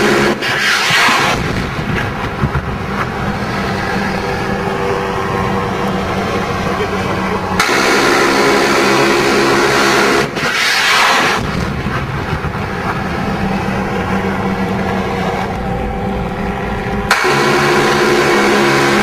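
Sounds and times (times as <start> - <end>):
harsh burst of noise: 0.0 - 19.0
helicopter engine hum: 1.2 - 19.0.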